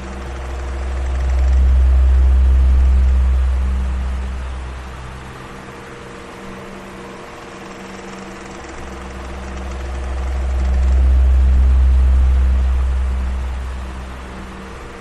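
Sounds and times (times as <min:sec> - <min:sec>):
deep rumble: 0:00.0 - 0:15.0
electric fan running: 0:00.0 - 0:15.0.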